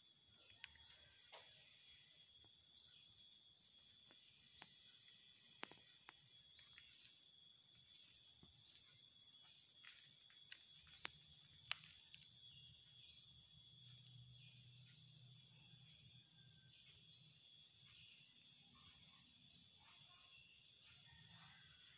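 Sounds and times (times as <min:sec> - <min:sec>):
steady high-pitched whine: 0:00.0 - 0:21.9.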